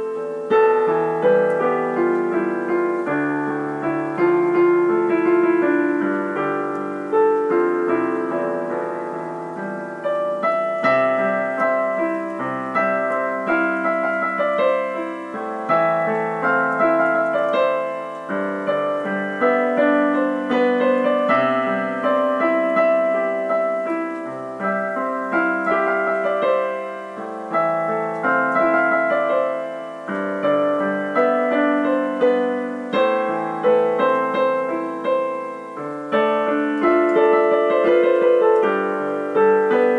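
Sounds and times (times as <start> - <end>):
solo piano melody: 0.0 - 39.9.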